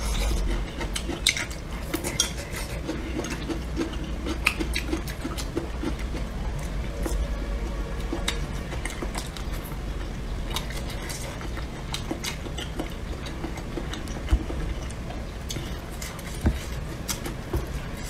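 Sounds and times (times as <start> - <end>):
chewing with wet mouth clicks: 0.0 - 18.0.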